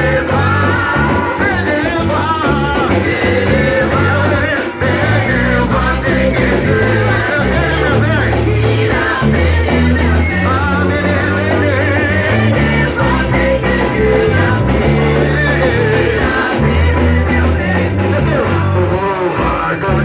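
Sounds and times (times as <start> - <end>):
person singing: 0.0 - 20.0
worship band over loudspeakers: 0.0 - 20.0.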